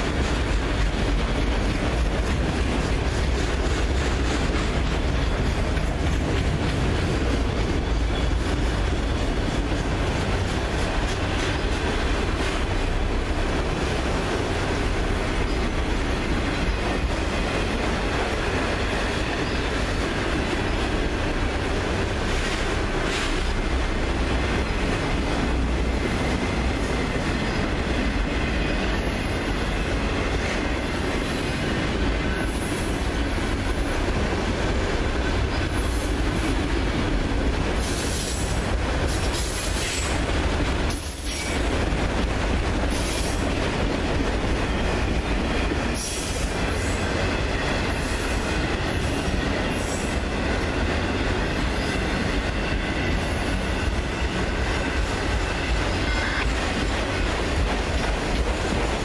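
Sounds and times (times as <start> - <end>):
freight cars rumbling and rattling: 0.0 - 59.0.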